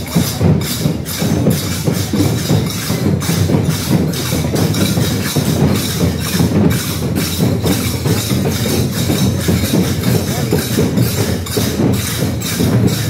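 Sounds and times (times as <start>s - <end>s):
drums beaten in steady rhythm: 0.0s - 13.0s.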